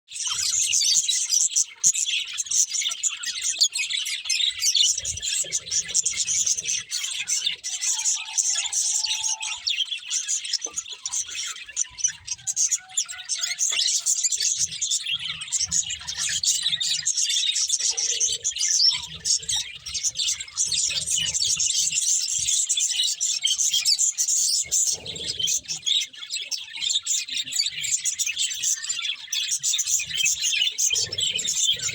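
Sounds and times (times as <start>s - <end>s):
budgerigars chirping and chattering: 0.1s - 31.9s.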